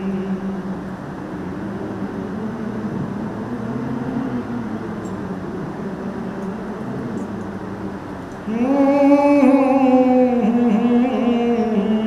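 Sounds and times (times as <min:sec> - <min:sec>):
background hiss: 0:00.0 - 0:12.0
person humming: 0:00.0 - 0:12.0.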